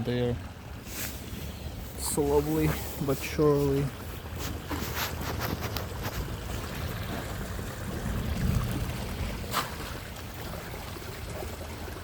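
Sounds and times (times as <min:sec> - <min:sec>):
sea water by the shore: 0:00.0 - 0:12.0
wind: 0:00.0 - 0:12.0.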